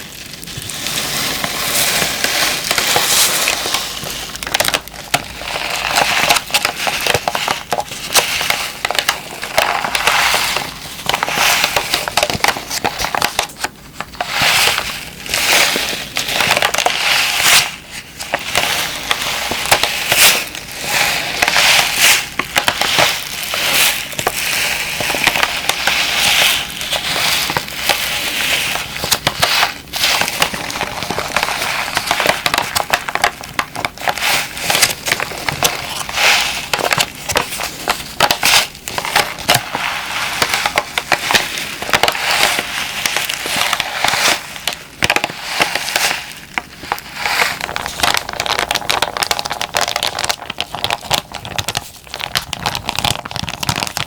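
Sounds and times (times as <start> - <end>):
plastic pack crinkling by hand: 0.0 - 54.0.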